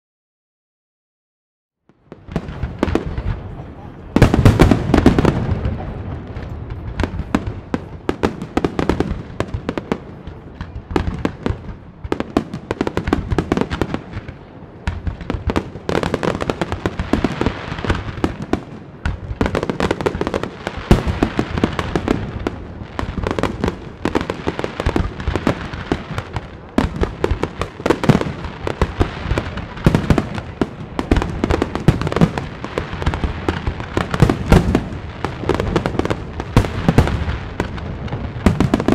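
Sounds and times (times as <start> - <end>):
fireworks bangs: 1.9 - 38.9.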